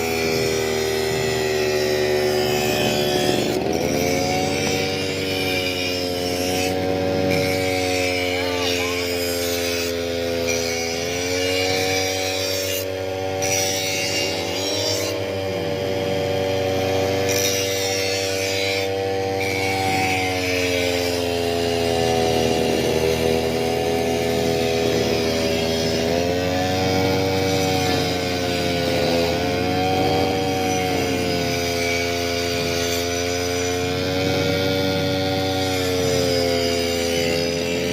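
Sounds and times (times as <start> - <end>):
brush cutter engine whine: 0.0 - 37.9.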